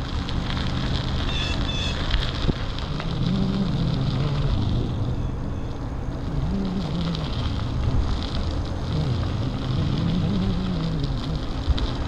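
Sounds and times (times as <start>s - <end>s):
e-bike riding rumble: 0.0s - 12.0s
wavering motor hum: 0.0s - 12.0s.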